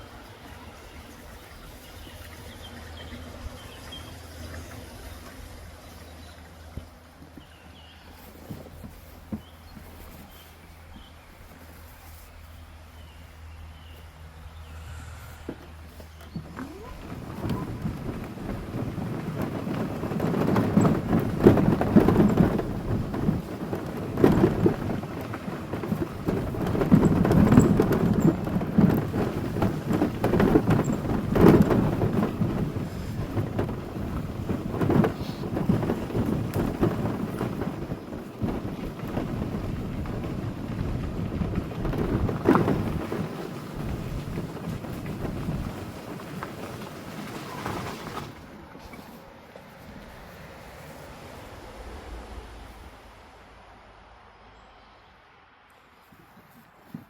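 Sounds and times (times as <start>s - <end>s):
tyre and road noise rumble: 0.0s - 57.0s.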